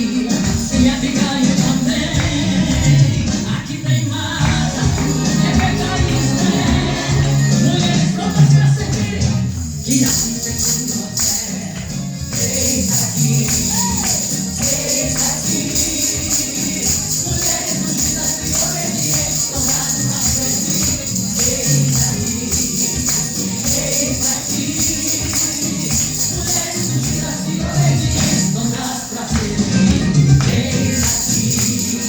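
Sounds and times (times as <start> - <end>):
worship song singing over beat: 0.0 - 32.0.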